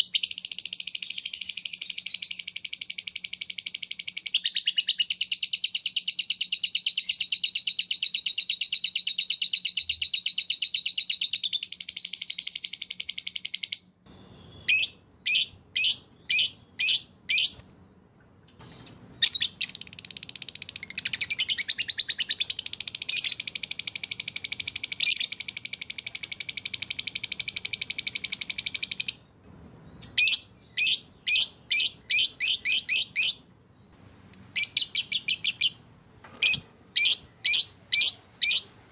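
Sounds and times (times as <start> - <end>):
bird chirps: 0.0 - 38.8.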